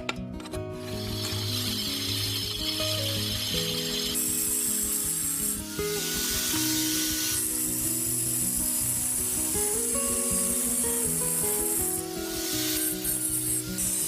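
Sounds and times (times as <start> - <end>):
background music: 0.0 - 14.0
wood rasping: 0.9 - 14.0.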